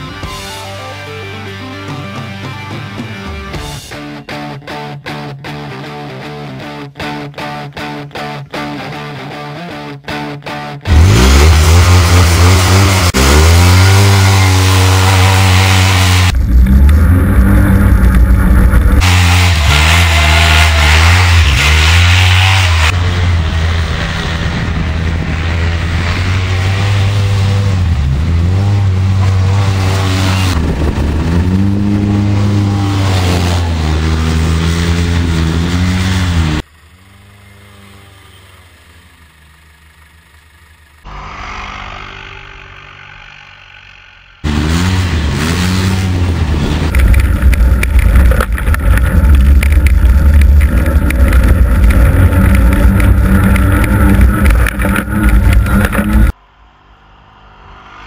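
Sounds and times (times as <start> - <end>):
engine revving: 3.0 - 58.0.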